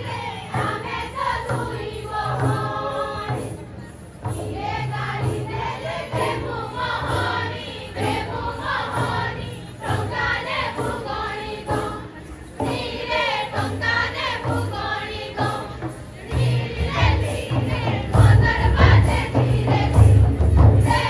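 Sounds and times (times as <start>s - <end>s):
drums beating: 0.0s - 21.0s
group singing folk song: 0.0s - 21.0s.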